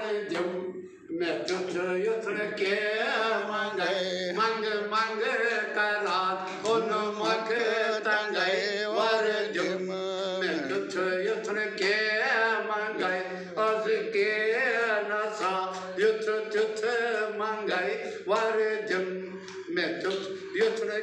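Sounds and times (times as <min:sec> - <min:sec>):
man singing devotional song: 0:00.0 - 0:21.0.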